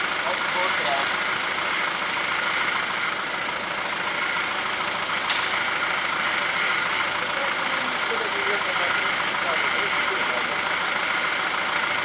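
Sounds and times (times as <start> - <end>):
off-road vehicle engine at low revs: 0.0 - 12.0.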